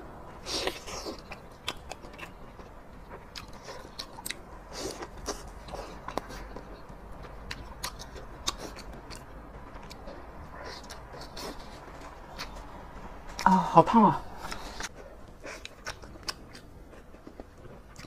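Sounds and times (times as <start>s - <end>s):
biting and chewing food: 0.1s - 13.5s, 14.4s - 18.0s.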